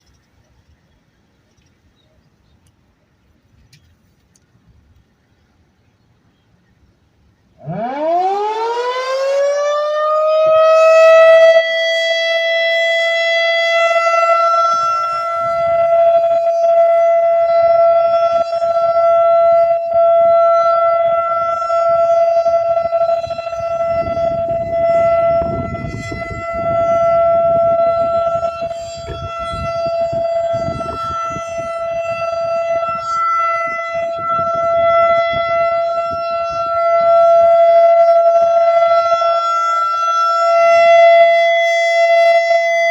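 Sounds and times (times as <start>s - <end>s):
tornado siren: 7.2s - 42.9s.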